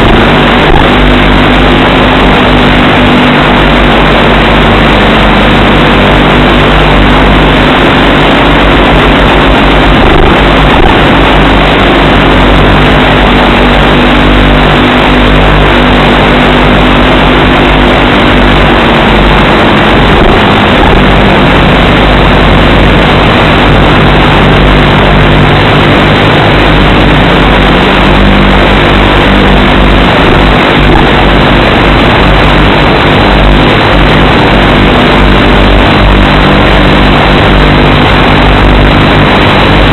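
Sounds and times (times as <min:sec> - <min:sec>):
model airplane motor droning: 0:00.0 - 0:39.9
wind rush: 0:00.0 - 0:39.9.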